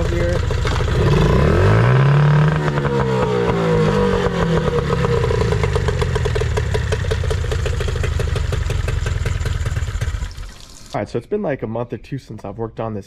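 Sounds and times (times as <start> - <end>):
outboard motor revving and idling: 0.0 - 10.9.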